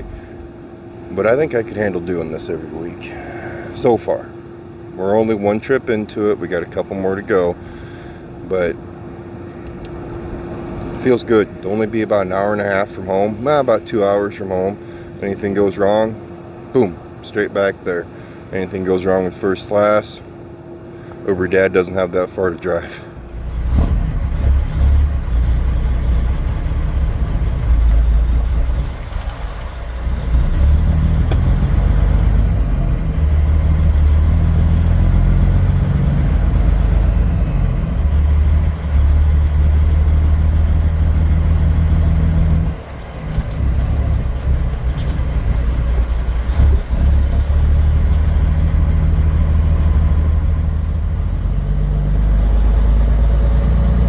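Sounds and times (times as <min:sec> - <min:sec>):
truck diesel engine running: 0:00.0 - 0:18.5, 0:21.8 - 0:54.0.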